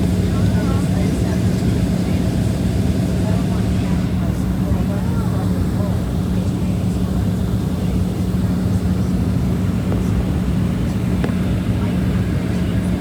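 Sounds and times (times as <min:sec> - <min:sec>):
airplane engine droning: 0:00.0 - 0:13.0.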